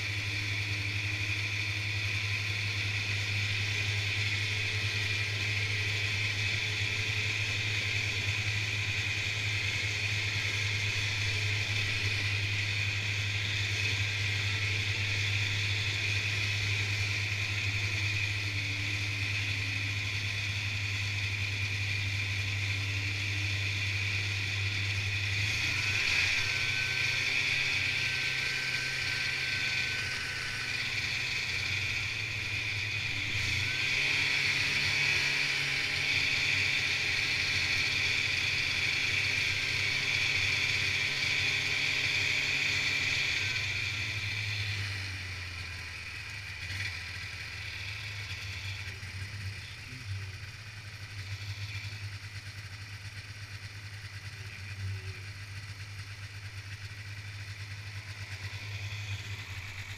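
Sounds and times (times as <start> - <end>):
high steady whine: 0.0 - 59.9
snowmobile engine running: 0.0 - 59.9.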